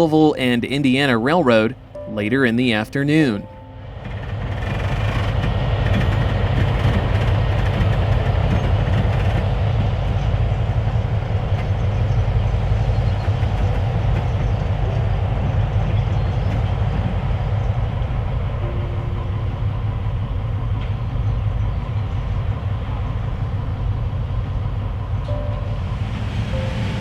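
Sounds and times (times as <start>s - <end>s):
diesel locomotive engine: 0.0s - 27.0s.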